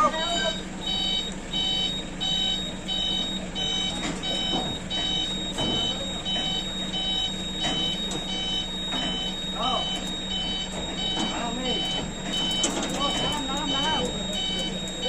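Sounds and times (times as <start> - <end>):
engine humming: 0.0 - 15.0
truck reversing alarm beeping: 0.0 - 15.0.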